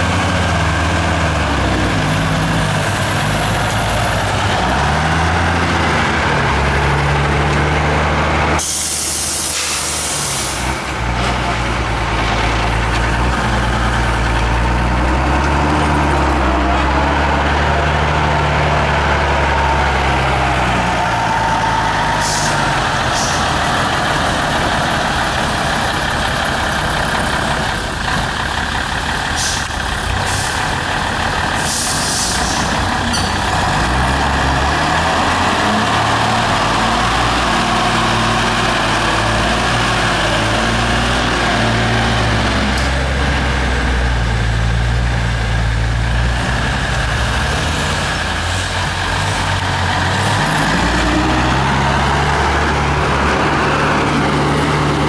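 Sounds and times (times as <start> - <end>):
diesel truck engine working hard: 0.0 - 55.0.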